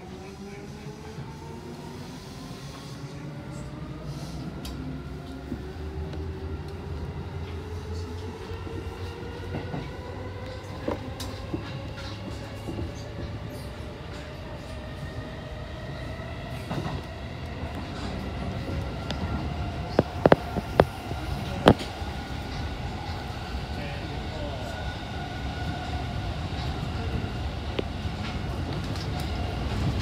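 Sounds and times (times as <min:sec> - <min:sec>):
train drive whine: 0:03.5 - 0:30.0.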